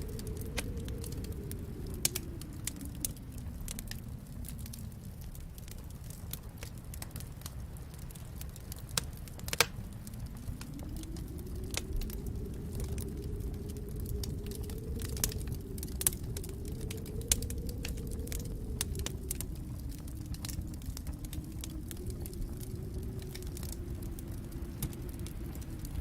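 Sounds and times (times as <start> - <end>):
low wind rumble: 0.0 - 26.0
wood fire crackling: 0.0 - 26.0.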